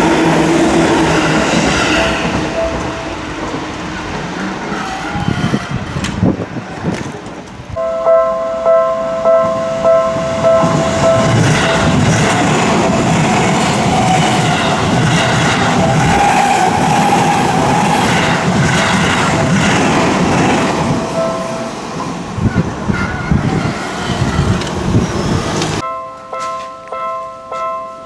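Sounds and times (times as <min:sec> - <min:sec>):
level crossing bell clanging: 0:00.0 - 0:05.6, 0:07.8 - 0:23.9, 0:25.6 - 0:28.0
train wheels rumbling on rails: 0:00.0 - 0:25.8.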